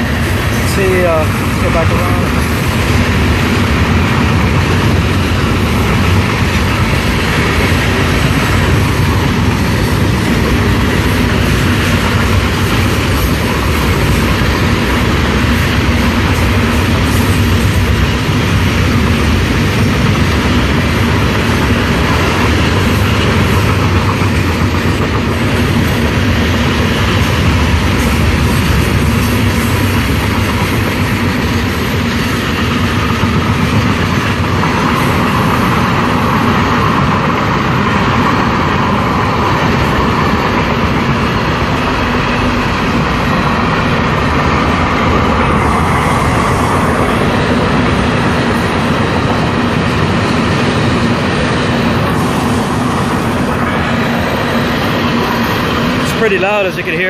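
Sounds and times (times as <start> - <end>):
train rumbling and rattling: 0.0 - 57.0.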